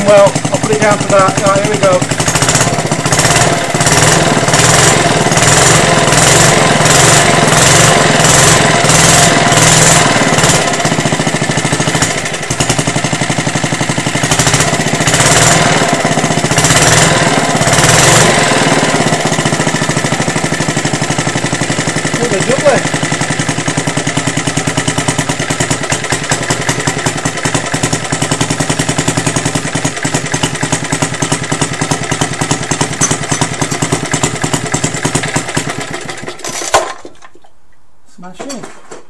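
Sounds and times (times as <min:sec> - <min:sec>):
mower engine surging: 0:00.0 - 0:37.3.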